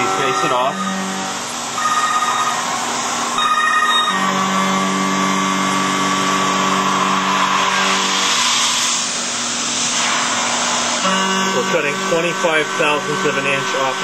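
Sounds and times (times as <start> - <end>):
milling machine spindle hum: 0.0 - 14.0.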